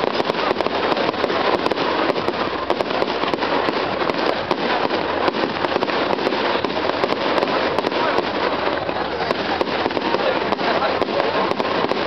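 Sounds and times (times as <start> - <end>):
fireworks popping and banging: 0.0 - 12.0.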